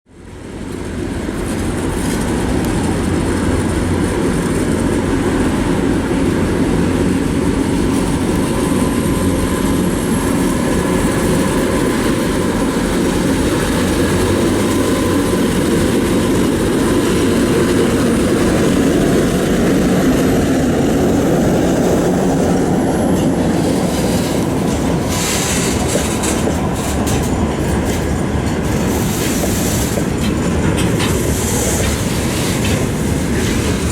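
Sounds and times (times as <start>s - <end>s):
diesel locomotive rumble: 0.1s - 33.9s
wheels clattering over rail joints: 0.6s - 33.9s.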